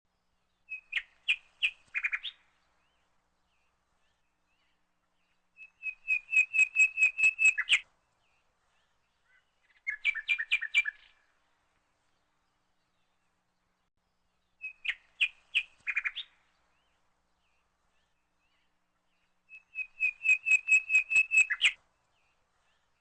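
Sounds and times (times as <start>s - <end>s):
bird chirping: 0.2s - 23.0s.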